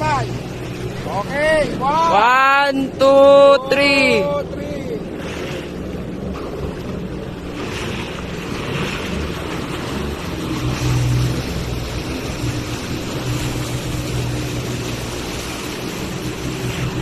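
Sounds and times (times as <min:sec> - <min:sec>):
motorboat engine running: 0:00.0 - 0:17.0
rushing water and spray: 0:00.0 - 0:17.0.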